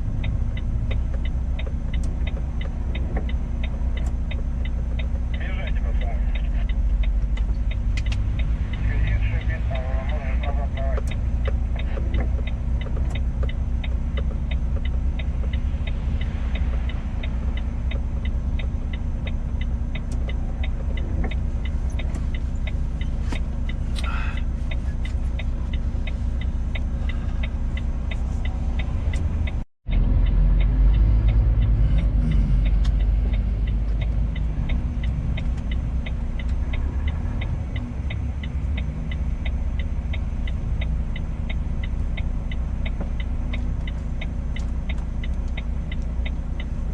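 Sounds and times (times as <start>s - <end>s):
diesel truck engine running: 0.0s - 46.9s
regular ticking: 0.0s - 46.9s.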